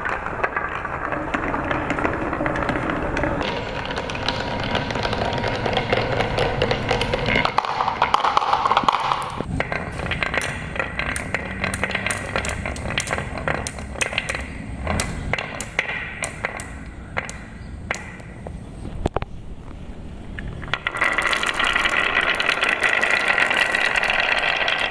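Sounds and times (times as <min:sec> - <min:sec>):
marbles clicking and clacking: 0:00.0 - 0:19.2, 0:20.4 - 0:24.9
marbles rolling on wooden track: 0:00.0 - 0:19.2, 0:20.4 - 0:24.9.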